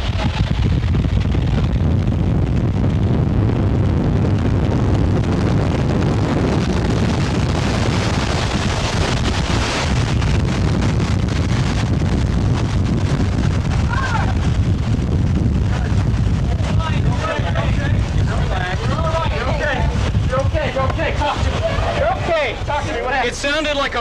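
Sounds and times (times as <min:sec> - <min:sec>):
tornado wind roaring: 0:00.0 - 0:24.0
wind buffeting microphone: 0:00.0 - 0:24.0.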